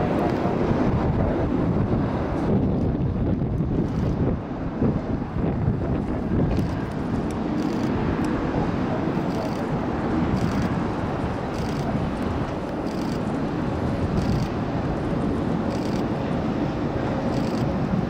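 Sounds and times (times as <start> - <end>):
jet engines rumbling overhead: 0.0 - 18.0.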